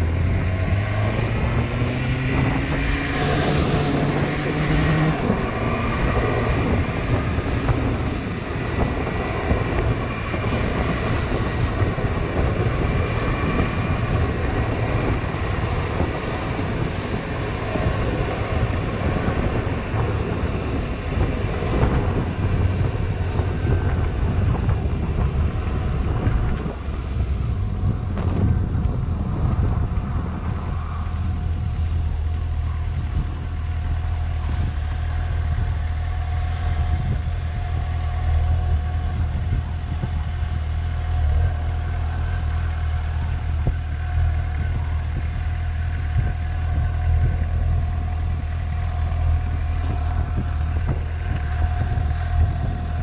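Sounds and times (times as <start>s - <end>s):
motorcycle engine: 0.0s - 53.0s
wind rushing on microphone: 0.0s - 53.0s.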